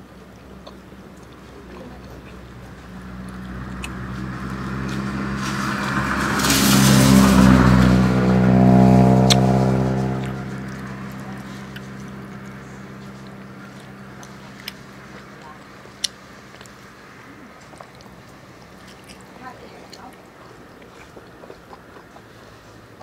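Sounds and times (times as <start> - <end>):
vehicle engine passing: 0.0 - 23.0.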